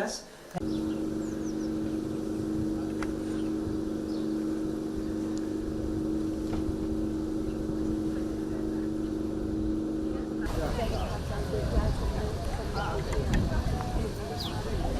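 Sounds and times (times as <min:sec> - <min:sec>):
machine engine humming: 0:00.6 - 0:14.9.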